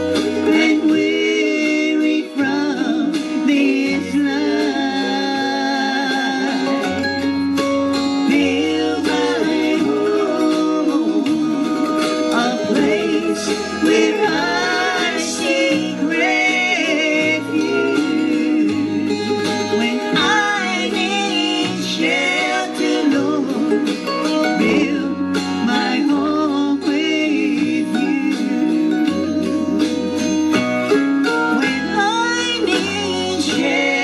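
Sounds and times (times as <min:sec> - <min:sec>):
acoustic string band music: 0:00.0 - 0:34.0.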